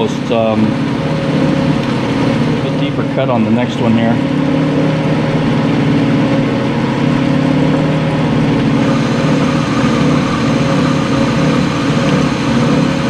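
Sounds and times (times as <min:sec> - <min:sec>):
lathe tool cutting steel: 0:00.0 - 0:13.0
metal lathe motor humming: 0:00.0 - 0:13.0.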